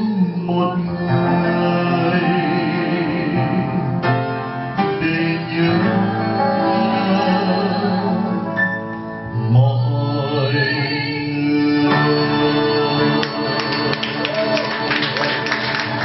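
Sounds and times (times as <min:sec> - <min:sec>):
man and woman singing duet: 0:00.0 - 0:08.6, 0:09.2 - 0:15.4.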